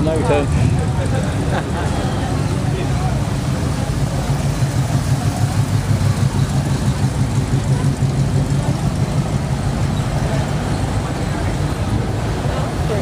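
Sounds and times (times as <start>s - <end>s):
car engine pulsing rumble: 0.0s - 13.0s.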